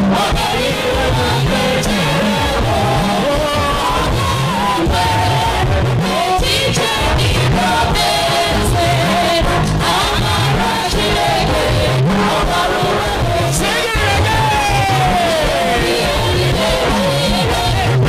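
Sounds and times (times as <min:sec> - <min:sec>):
band with steady beat: 0:00.0 - 0:18.0
bass line: 0:00.0 - 0:18.0
voices singing gospel song: 0:00.0 - 0:18.0.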